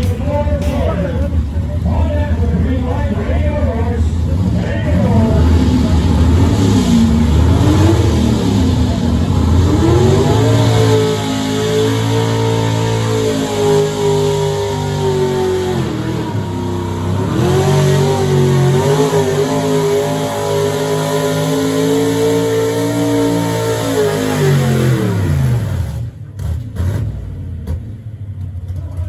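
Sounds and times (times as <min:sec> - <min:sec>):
truck engine at high revs: 0:00.0 - 0:29.0.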